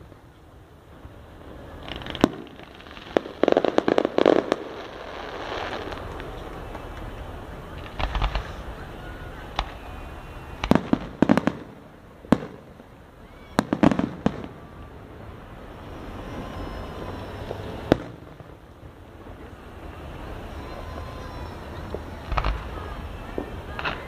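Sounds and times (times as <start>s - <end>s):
crackling firework reports: 0.0s - 24.0s
fireworks exploding: 0.0s - 24.0s.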